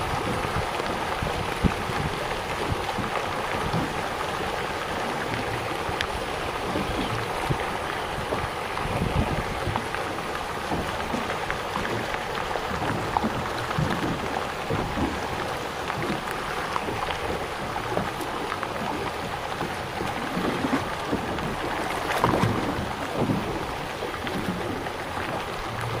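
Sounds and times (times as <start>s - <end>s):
choppy sea water splashing: 0.0s - 26.0s
small splashes of fish feeding: 0.0s - 26.0s
wind: 0.0s - 26.0s.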